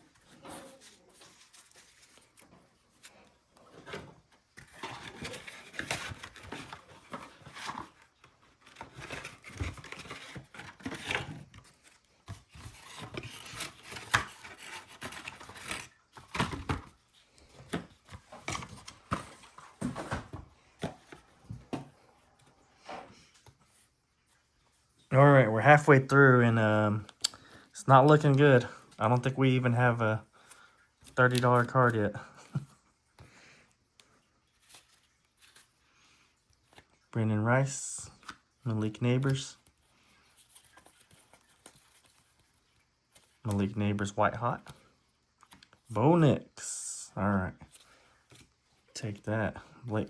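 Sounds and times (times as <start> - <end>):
cardboard and wrappers rustling: 0.0 - 45.9.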